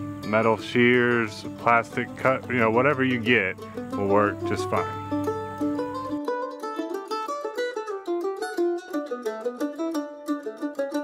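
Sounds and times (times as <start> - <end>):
plucked string instrument tune: 0.0 - 11.0.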